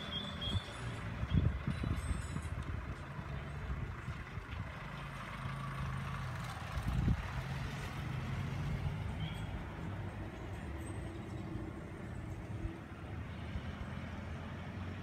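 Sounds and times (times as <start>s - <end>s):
bus diesel engine humming: 0.0s - 15.0s
road and air noise: 0.0s - 15.0s.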